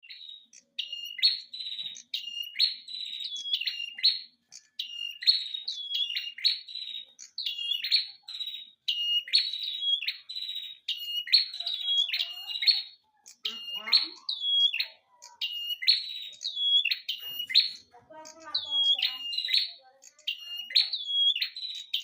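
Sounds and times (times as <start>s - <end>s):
songbird whistle and trill: 0.0s - 22.0s.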